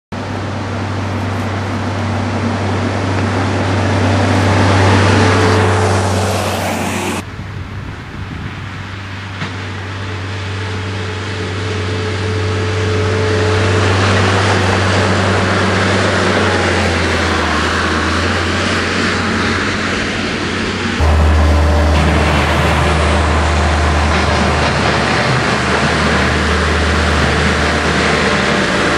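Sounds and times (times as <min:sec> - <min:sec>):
loader engine running: 0:00.1 - 0:07.4, 0:08.5 - 0:28.9.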